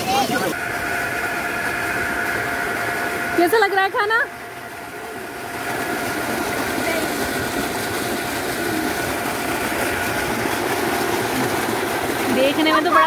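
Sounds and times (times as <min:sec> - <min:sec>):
water gushing into concrete tank: 0:00.0 - 0:13.0.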